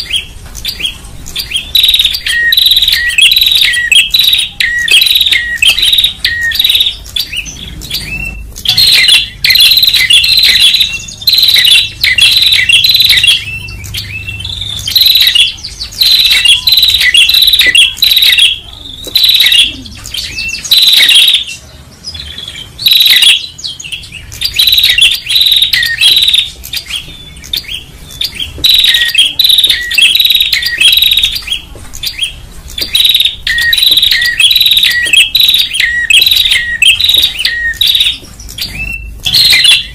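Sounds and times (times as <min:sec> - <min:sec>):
bird chirping sharply: 0:00.0 - 0:39.9.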